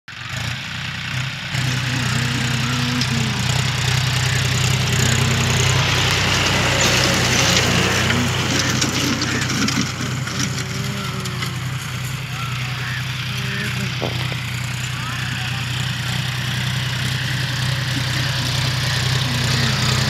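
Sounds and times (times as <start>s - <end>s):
tractor diesel engine under load: 0.1s - 20.0s.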